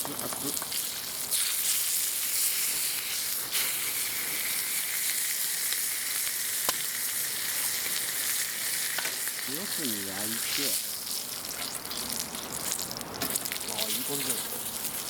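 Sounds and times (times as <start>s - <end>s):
pork sizzling in a skillet: 0.0s - 15.0s.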